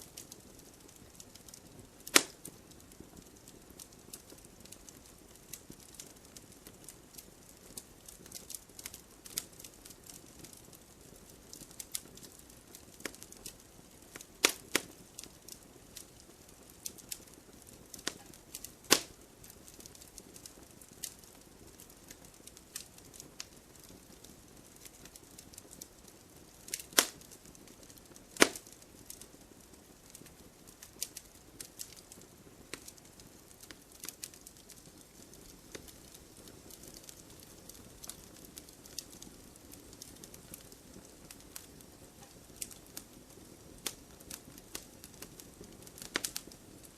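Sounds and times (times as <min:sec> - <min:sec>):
sharp fire pops: 0:00.0 - 0:29.2, 0:30.1 - 0:46.6
campfire crackling: 0:00.0 - 0:46.9.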